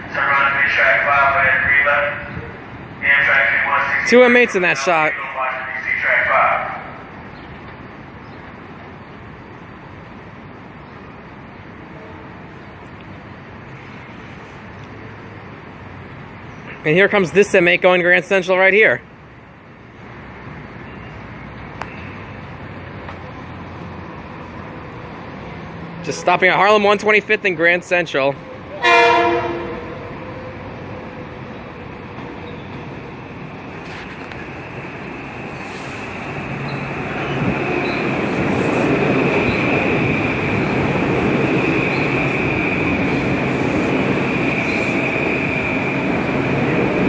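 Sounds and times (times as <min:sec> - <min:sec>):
distant train rumble: 0:00.0 - 0:47.0.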